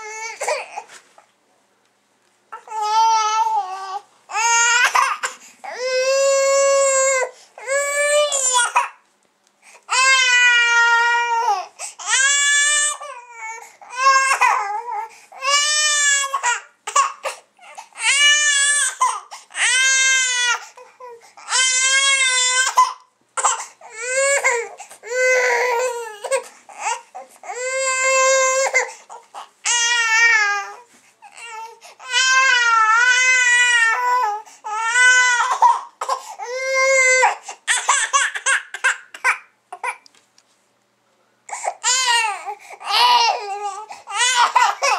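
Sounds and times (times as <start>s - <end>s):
baby crying: 0.0s - 0.9s, 2.5s - 9.0s, 9.9s - 40.0s, 41.5s - 44.9s.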